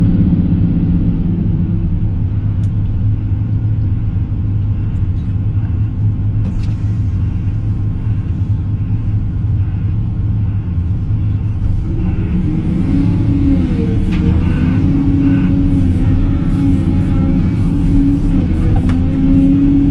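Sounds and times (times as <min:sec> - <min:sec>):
excavator diesel engine droning: 0:00.0 - 0:19.9
wavering whine: 0:00.0 - 0:19.9.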